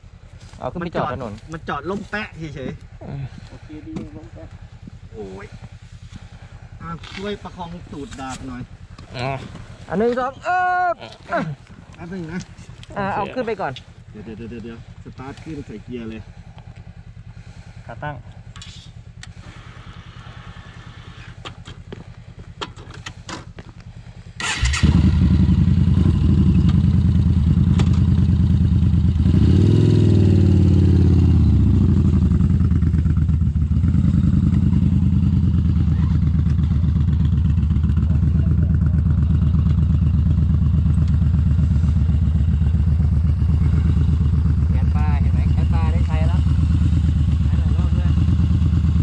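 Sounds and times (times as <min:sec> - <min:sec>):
motorcycle engine starting and idling: 0:00.1 - 0:49.0.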